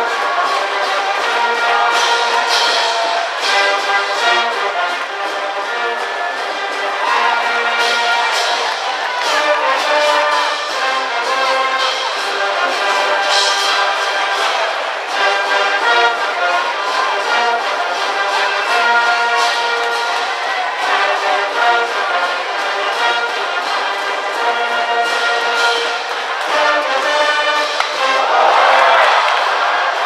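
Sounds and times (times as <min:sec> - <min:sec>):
brass band playing: 0:00.0 - 0:30.0
trumpets and trombones melody: 0:00.0 - 0:30.0.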